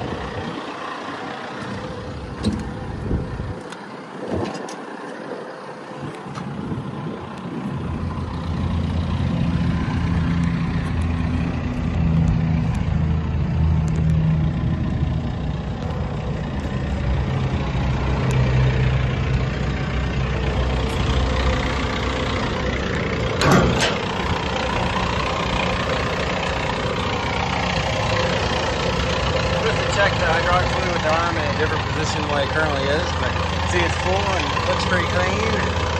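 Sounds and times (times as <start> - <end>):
excavator diesel engine idling: 0.0 - 4.2, 4.8 - 35.9.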